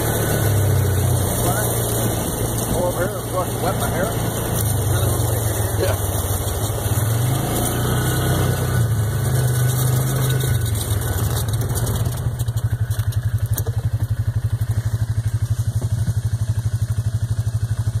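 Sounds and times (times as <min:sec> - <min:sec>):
tyres on gravel: 0:00.0 - 0:18.0
utility vehicle engine: 0:00.0 - 0:18.0.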